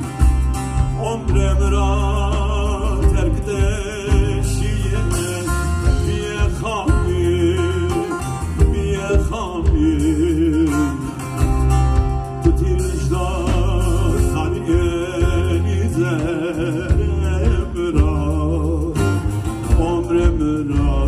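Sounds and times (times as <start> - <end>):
bass line: 0.0 - 21.0
live folk band playing: 0.0 - 21.0.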